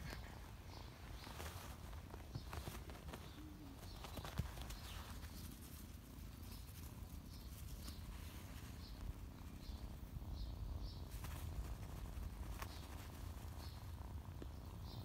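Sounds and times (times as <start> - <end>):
kitten scuffling in grass: 0.0 - 10.0, 10.8 - 14.3.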